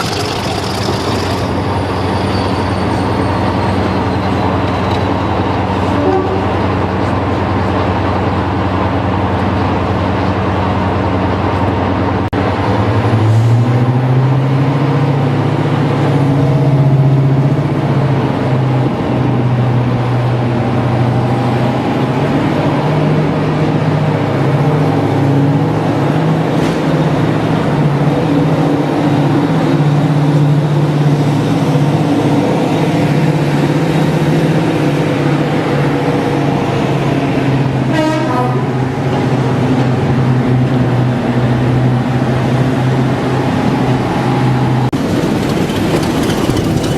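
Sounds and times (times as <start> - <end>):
diesel locomotive engine drone: 0.0 - 46.9.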